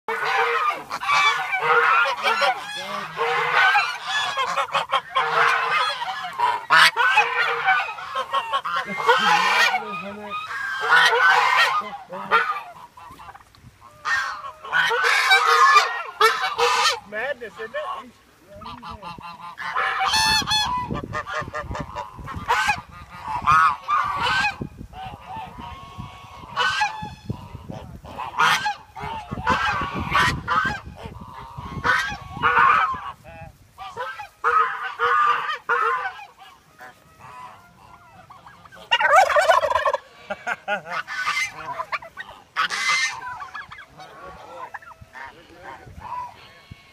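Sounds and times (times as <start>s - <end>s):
geese honking: 0.1s - 46.9s.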